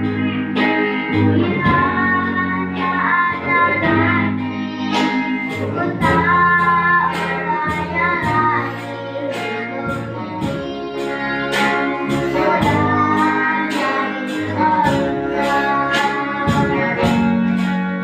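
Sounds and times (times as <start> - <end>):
song with guitar and beat: 0.0 - 18.0.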